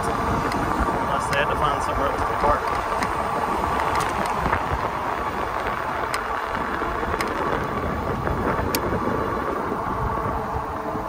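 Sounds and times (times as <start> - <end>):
car traffic: 0.0 - 11.0
road noise of moving ebike: 0.0 - 11.0
wind rushing over microphone: 0.0 - 11.0.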